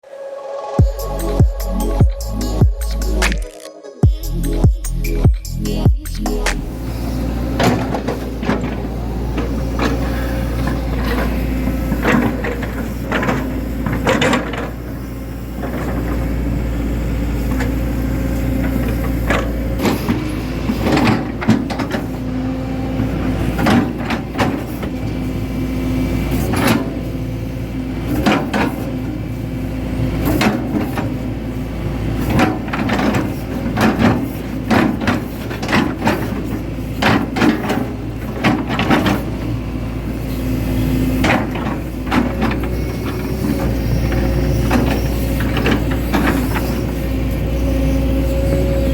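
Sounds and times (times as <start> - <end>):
excavator diesel engine running: 0.7 - 48.9.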